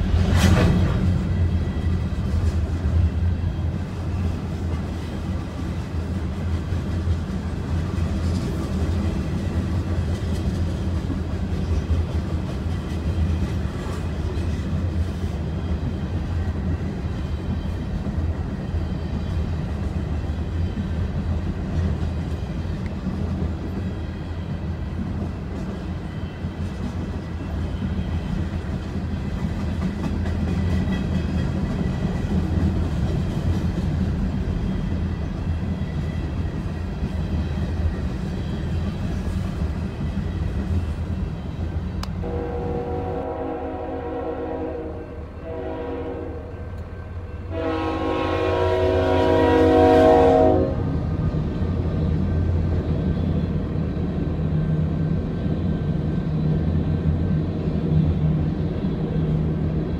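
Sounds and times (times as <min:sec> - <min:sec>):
freight train cars rolling past: 0:00.0 - 0:59.9.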